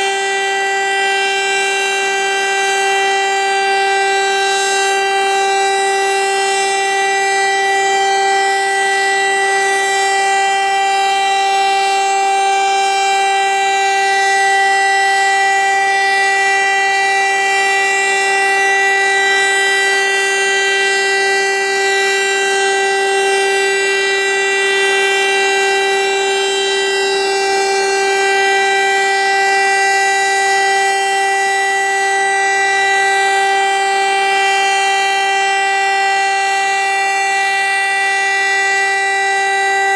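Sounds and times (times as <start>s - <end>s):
rotary siren steady tone: 0.0s - 39.9s.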